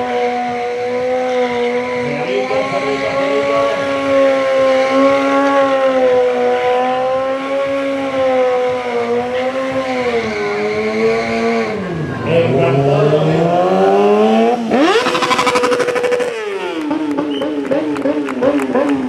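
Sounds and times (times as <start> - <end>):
motorcycle engine revving high: 0.0 - 19.0.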